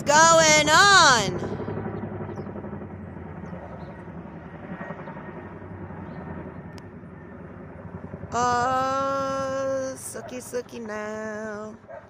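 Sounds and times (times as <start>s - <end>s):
helicopter rotors droning: 0.0s - 12.0s.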